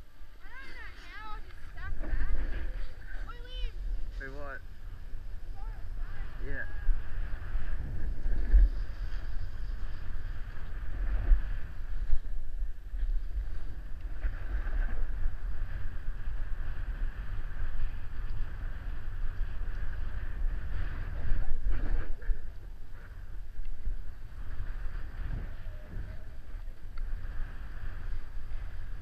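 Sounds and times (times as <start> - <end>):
wind buffeting microphone: 0.0 - 29.0
snowboard sliding over snow: 5.0 - 29.0.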